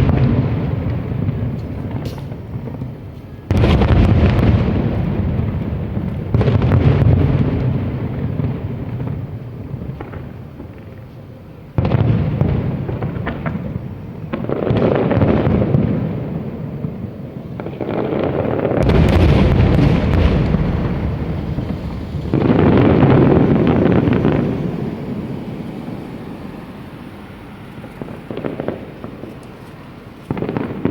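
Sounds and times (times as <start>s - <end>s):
firework shells booming: 0.0s - 10.9s, 11.7s - 30.9s
firework crackling: 0.0s - 30.9s.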